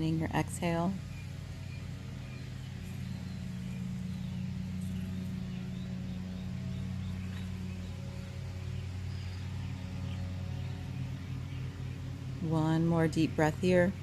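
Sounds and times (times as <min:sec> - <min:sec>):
low hum of held tones: 0:00.0 - 0:14.0.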